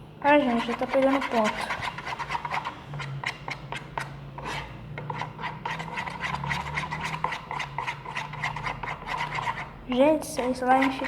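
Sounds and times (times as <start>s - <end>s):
spoon scraping slime: 0.2s - 11.0s.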